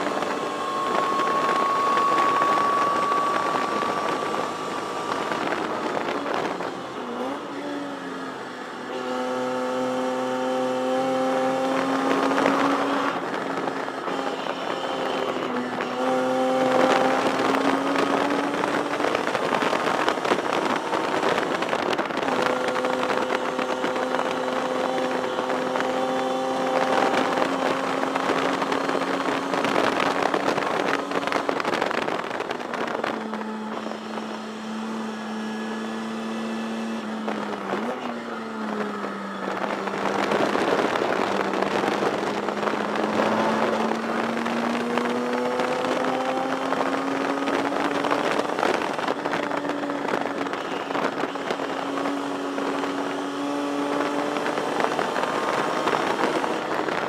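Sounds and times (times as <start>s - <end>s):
race car engine revving through gears: 0.0s - 57.0s
road noise: 0.0s - 57.0s
wind noise: 0.0s - 57.0s.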